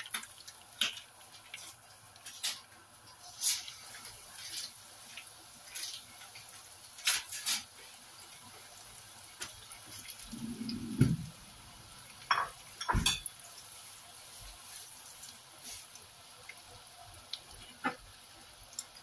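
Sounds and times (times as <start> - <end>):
cutlets sizzling in oil: 0.0 - 19.0.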